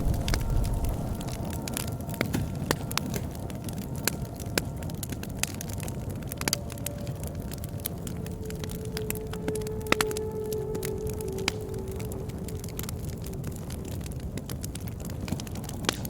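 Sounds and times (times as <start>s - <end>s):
campfire crackling: 0.0s - 16.0s
flames rumbling: 0.0s - 16.0s.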